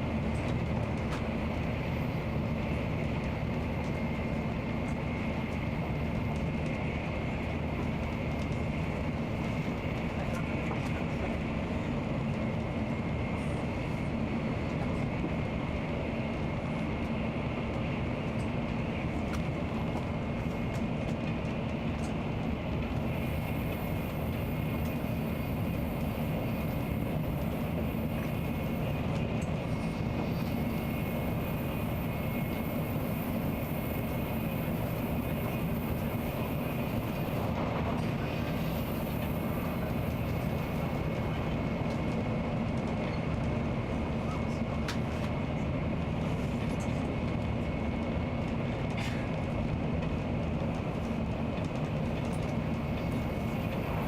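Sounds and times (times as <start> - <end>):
train rumble and rush: 0.0 - 54.0.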